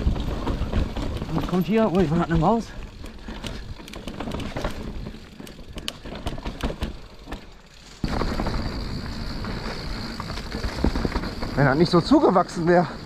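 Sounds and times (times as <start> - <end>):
bike tyres rumbling on dirt: 0.0 - 13.0
chain and frame rattling: 0.0 - 13.0.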